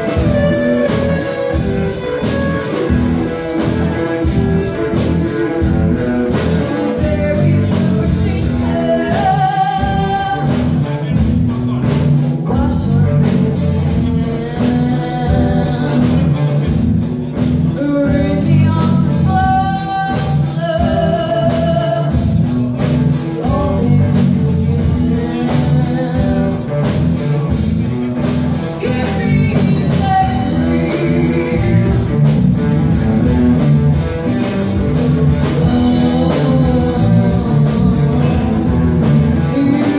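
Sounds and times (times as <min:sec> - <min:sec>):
woman singing lead: 0:00.0 - 0:11.2, 0:11.8 - 0:16.8, 0:17.6 - 0:22.4, 0:23.3 - 0:27.5, 0:28.6 - 0:32.9, 0:35.2 - 0:39.9
drum kit beat: 0:00.0 - 0:39.9
live rock band playing: 0:00.0 - 0:39.9.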